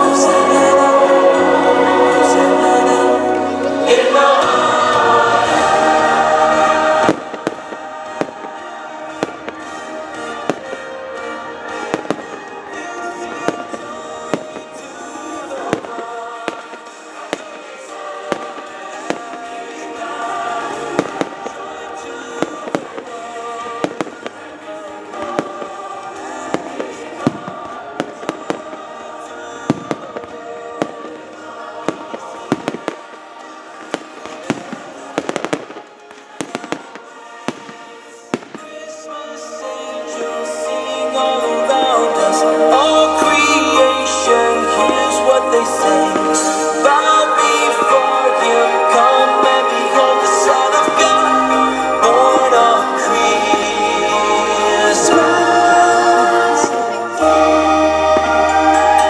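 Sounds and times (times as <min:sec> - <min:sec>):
music: 0:00.0 - 0:59.0
fireworks bangs and crackles: 0:04.4 - 0:59.0.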